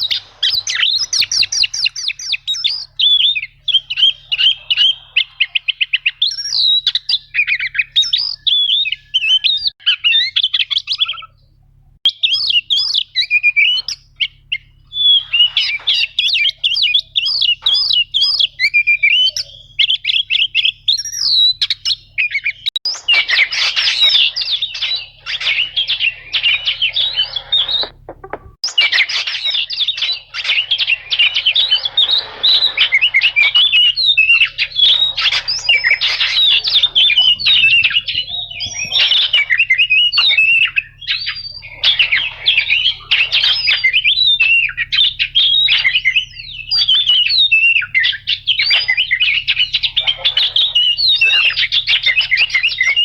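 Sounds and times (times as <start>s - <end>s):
bird singing whistled chattering song: 0.0s - 11.5s, 12.1s - 53.0s.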